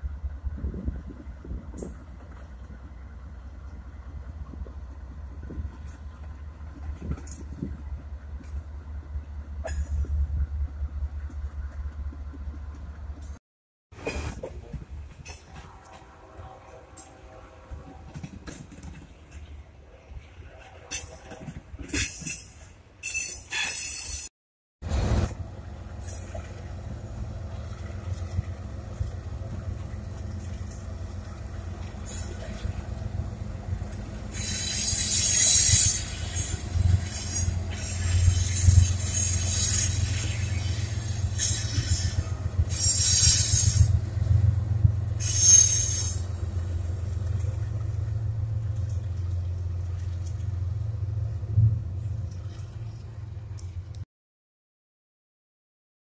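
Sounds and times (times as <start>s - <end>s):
diesel locomotive engine drone: 0.0s - 23.0s, 24.8s - 54.0s.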